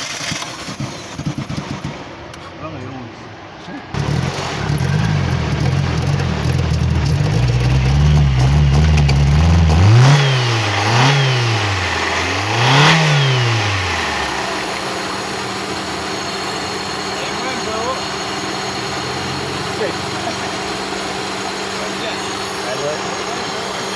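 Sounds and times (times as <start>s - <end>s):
engine revving in blips: 0.0s - 2.4s, 3.9s - 23.9s
petrol engine running unevenly: 4.0s - 23.9s.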